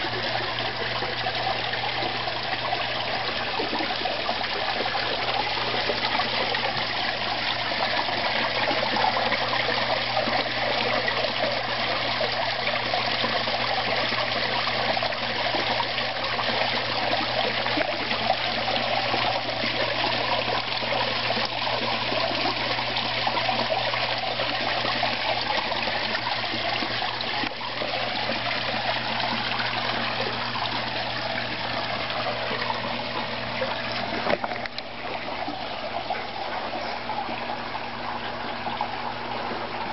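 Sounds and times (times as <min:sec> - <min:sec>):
water splashing into pond: 0:00.0 - 0:39.9.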